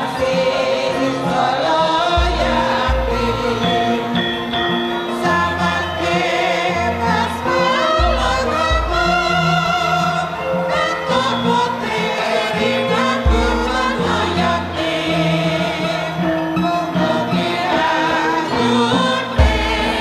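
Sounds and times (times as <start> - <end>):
gamelan music: 0.0 - 20.0
group of voices singing: 0.0 - 20.0.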